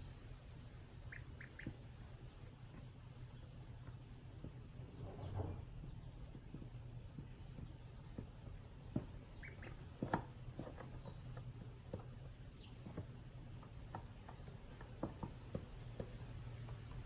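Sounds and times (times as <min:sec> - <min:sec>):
low steady hum: 0:00.0 - 0:17.0
ducklings rustling in bedding: 0:00.9 - 0:15.6.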